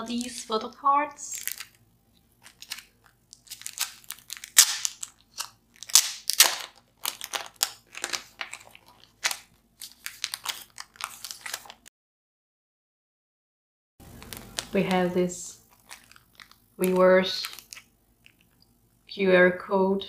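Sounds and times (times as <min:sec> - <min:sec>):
plastic sleeve crinkling: 0:00.0 - 0:11.9, 0:14.0 - 0:18.7.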